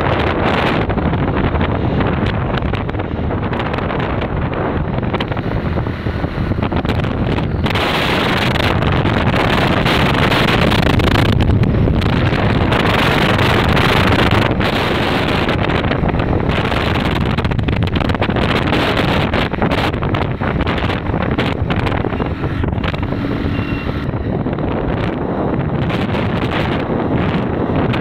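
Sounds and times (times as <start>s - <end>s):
vehicle and road noise: 0.0s - 28.0s
wind on microphone: 0.0s - 28.0s.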